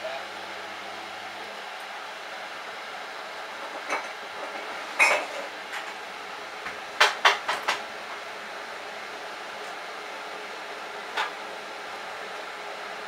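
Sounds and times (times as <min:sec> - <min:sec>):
washing machine drum humming: 0:00.0 - 0:13.0.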